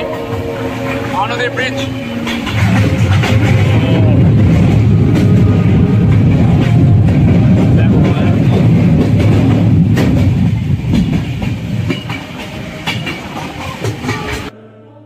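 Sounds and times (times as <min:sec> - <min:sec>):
wheels clicking over rail joints: 0:00.0 - 0:14.5
train coaches rumbling on track: 0:00.0 - 0:14.6.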